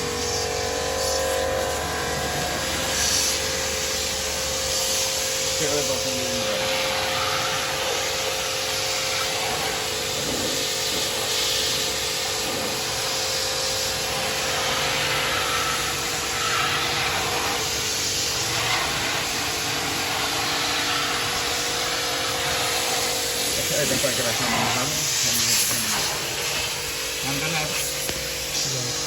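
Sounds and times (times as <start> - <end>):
constant machine hum: 0.0 - 29.0.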